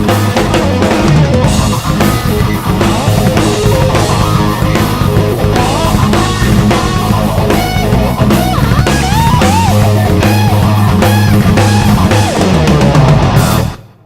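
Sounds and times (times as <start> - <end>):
guitar bending sliding notes: 0.0 - 13.8
rock band playing: 0.0 - 14.0.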